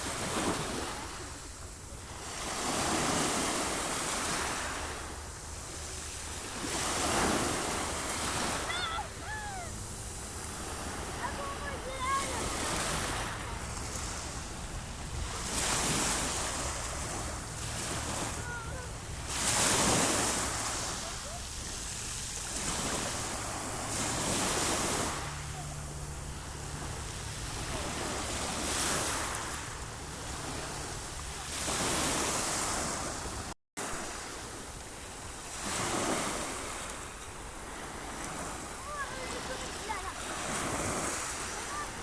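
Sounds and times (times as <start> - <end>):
sea waves breaking on shore: 0.0 - 42.0.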